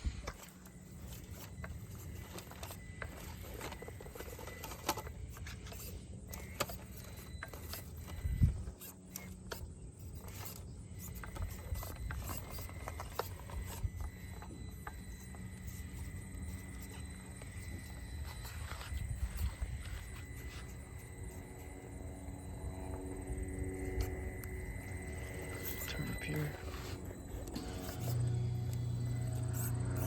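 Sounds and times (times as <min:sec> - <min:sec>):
small electric motor and gears: 0:00.0 - 0:30.0.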